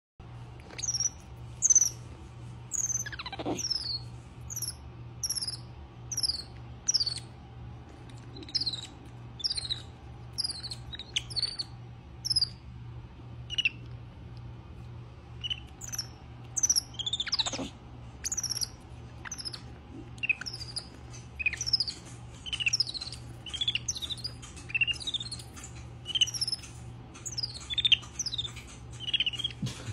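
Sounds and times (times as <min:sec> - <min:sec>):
monkeys chirping: 0:00.7 - 0:02.0, 0:02.7 - 0:07.3, 0:08.3 - 0:12.6, 0:13.5 - 0:13.8, 0:15.4 - 0:29.9.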